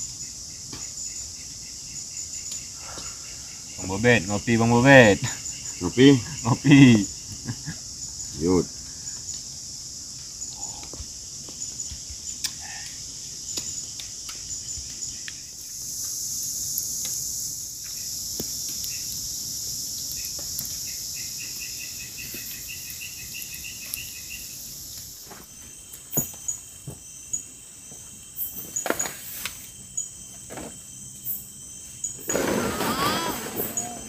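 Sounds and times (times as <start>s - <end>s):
crickets and insects buzzing: 0.0s - 34.0s.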